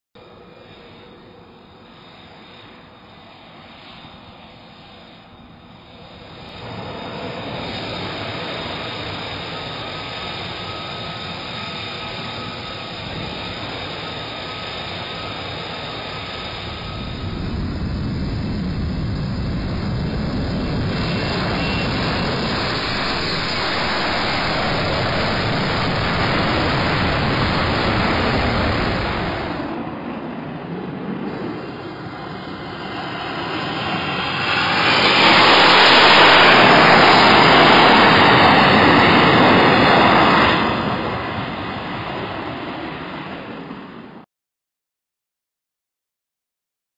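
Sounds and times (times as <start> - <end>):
jet engine whine and roar: 0.2 - 44.3.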